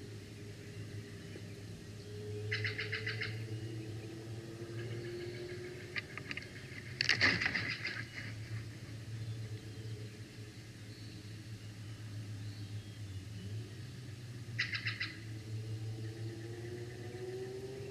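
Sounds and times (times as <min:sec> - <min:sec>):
bird chirping: 0:00.0 - 0:17.9
faint drone rising in pitch: 0:00.0 - 0:17.9
steady low hum: 0:00.0 - 0:17.9.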